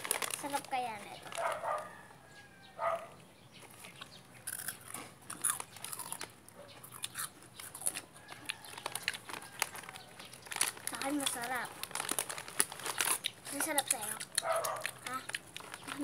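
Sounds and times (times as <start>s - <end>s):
crunchy food being chewed: 0.0s - 2.1s, 2.8s - 16.0s.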